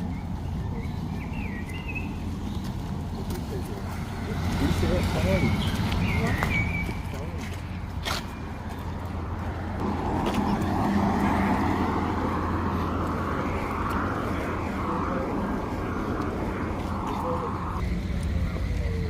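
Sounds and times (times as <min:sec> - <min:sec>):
engine and traffic noise: 0:00.0 - 0:19.0.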